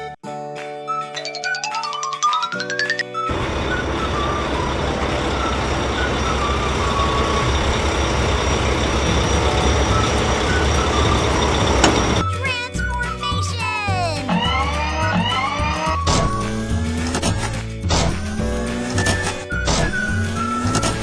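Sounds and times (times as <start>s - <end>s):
rising musical glide: 0.9s - 21.0s
truck engine rumble: 3.3s - 21.0s.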